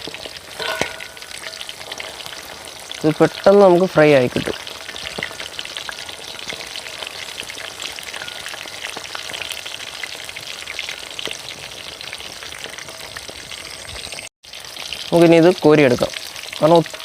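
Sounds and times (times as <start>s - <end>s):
meat frying in hot oil: 0.0s - 17.0s.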